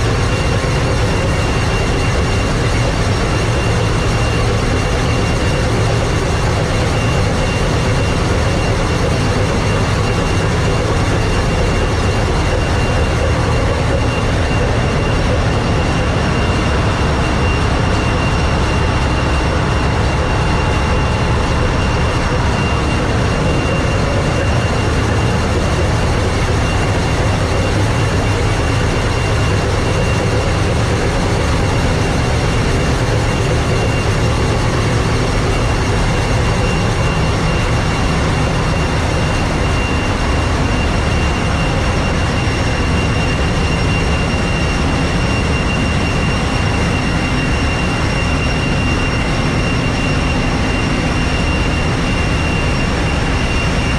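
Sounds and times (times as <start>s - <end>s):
engine-room machinery drone: 0.0s - 53.9s
thin high machinery whine: 0.0s - 53.9s.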